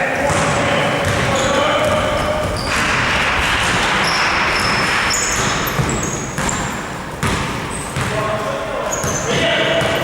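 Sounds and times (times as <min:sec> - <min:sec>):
sneakers squeaking on floor: 0:00.1 - 0:10.0
basketball bouncing: 0:00.2 - 0:10.0.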